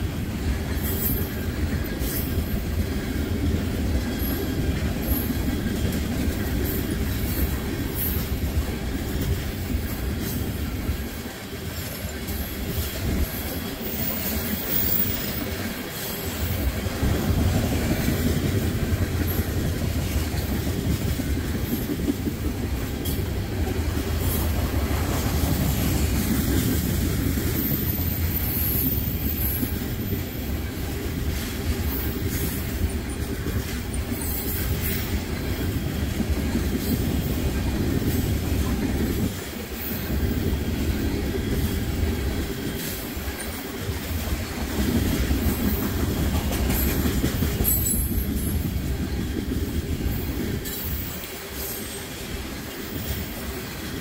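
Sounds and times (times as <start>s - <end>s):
wheels clacking over rail joints: 0.0s - 54.0s.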